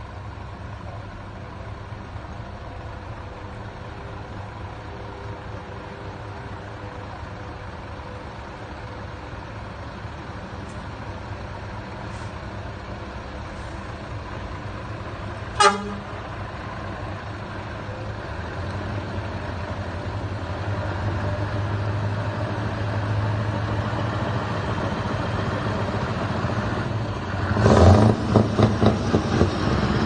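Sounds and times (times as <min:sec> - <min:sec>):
truck diesel engines droning: 0:00.0 - 0:30.0.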